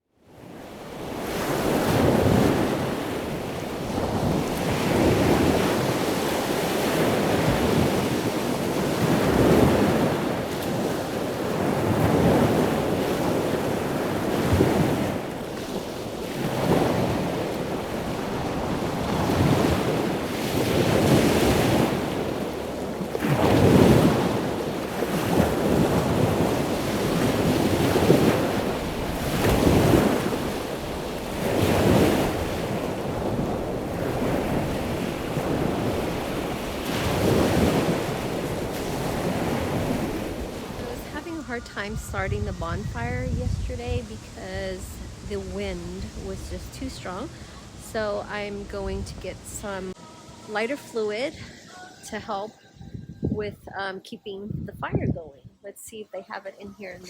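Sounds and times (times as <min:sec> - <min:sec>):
ocean surf washing on beach: 0:00.0 - 0:52.6
wind rumbling on microphone: 0:00.2 - 0:51.5, 0:52.1 - 0:55.8.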